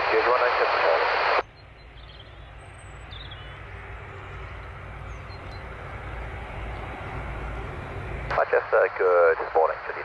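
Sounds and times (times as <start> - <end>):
distant aircraft engines rumbling: 0.0 - 10.0.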